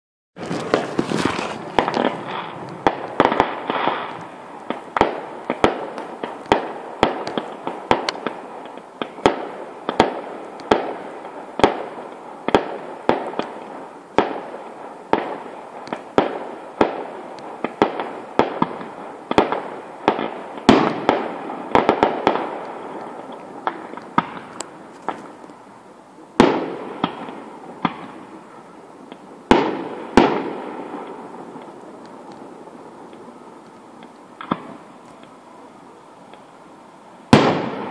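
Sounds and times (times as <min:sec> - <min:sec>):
fireworks bangs: 0:00.4 - 0:25.6, 0:26.4 - 0:36.6, 0:37.2 - 0:37.9
fireworks crackling: 0:00.4 - 0:37.9.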